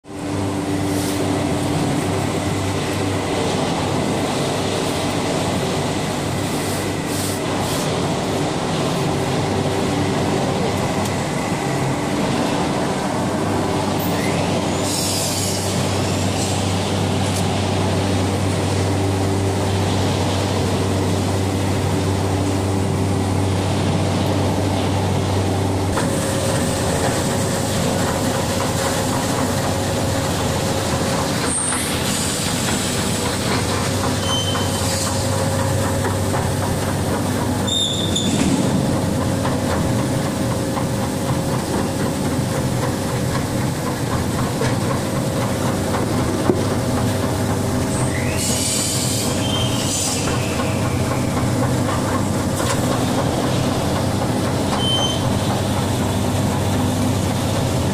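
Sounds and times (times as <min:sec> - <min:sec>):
industrial machinery din: 0:00.0 - 0:57.9.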